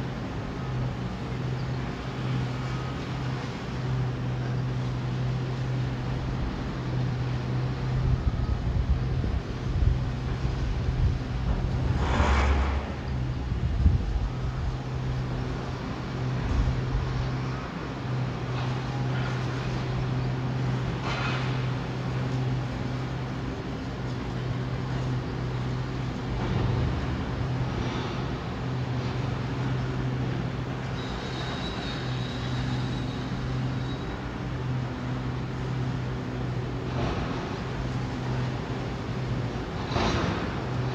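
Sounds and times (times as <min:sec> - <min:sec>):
construction site noise: 0:00.0 - 0:40.9
diesel engine rumbling: 0:00.0 - 0:40.9.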